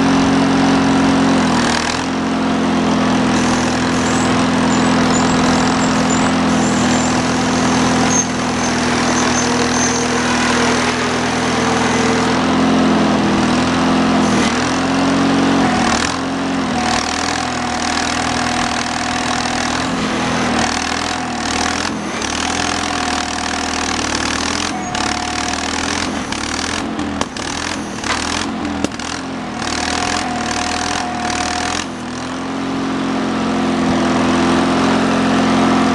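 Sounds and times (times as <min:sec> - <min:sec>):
gas engine running: 0:00.0 - 0:35.9.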